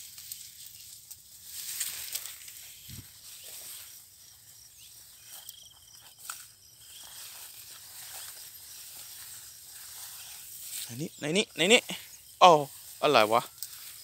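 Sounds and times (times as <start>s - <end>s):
insects chirring: 0.0s - 14.0s
rice plants rustling: 0.0s - 14.0s.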